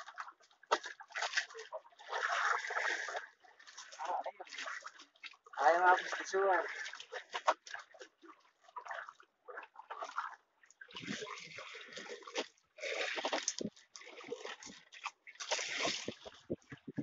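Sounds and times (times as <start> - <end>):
water splashing against boat hull: 0.0 - 17.0.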